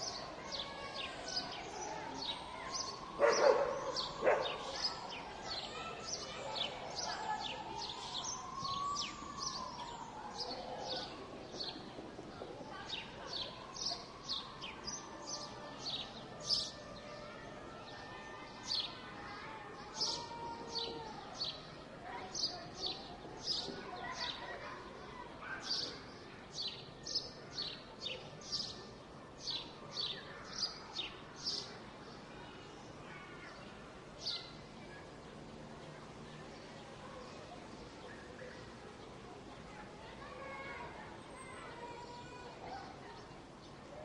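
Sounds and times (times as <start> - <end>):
city noise hum: 0.0 - 44.0.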